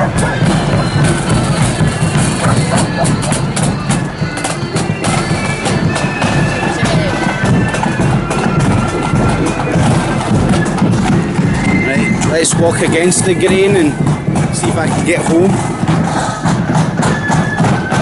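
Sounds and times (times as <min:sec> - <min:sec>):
marching band playing: 0:00.0 - 0:18.0
rapid drum strikes: 0:00.0 - 0:18.0.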